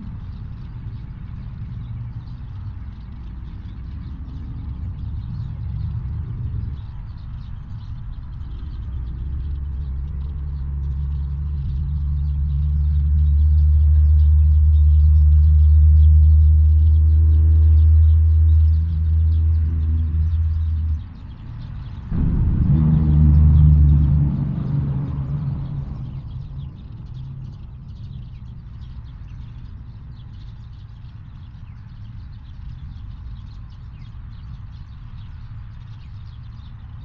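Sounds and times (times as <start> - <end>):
motor vehicle engine rumble: 0.0 - 31.1.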